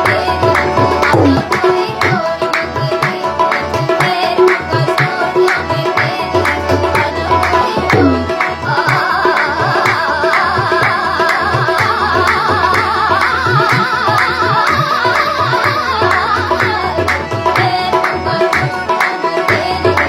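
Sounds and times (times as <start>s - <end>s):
tabla playing a steady rhythm: 0.0s - 20.0s.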